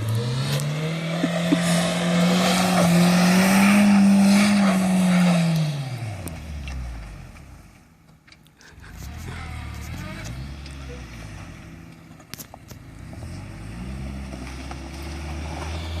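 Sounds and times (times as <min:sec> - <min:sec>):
car engine revving: 0:00.0 - 0:07.9, 0:08.7 - 0:16.0.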